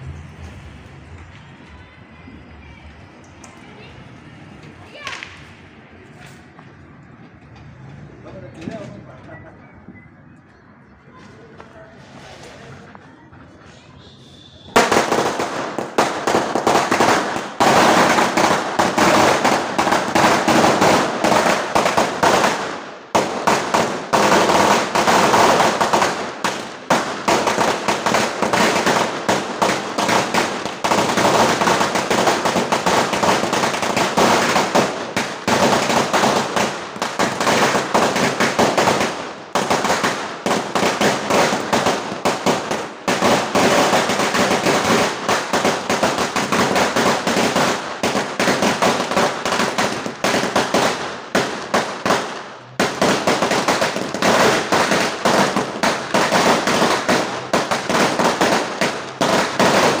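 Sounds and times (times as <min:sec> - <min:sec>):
firecrackers banging and crackling: 0:00.0 - 0:09.6, 0:11.0 - 1:00.0.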